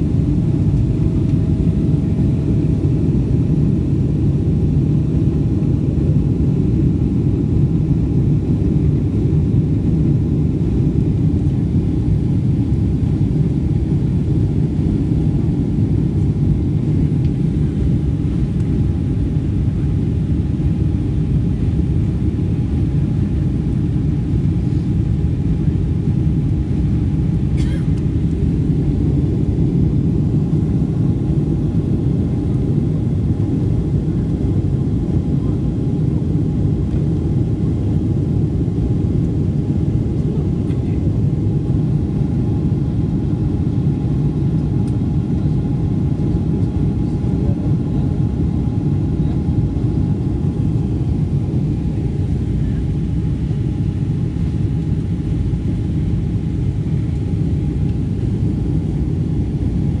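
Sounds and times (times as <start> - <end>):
aircraft engines rumbling: 0.0 - 60.0
faint steady whine: 0.0 - 60.0.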